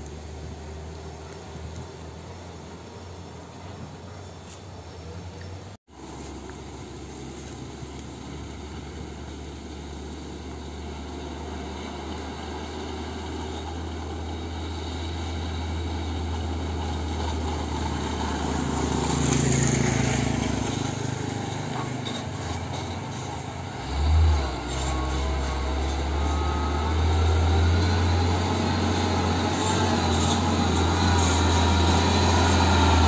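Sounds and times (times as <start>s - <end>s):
diesel truck engine droning: 0.0s - 33.0s
motorcycle passing: 0.0s - 33.0s.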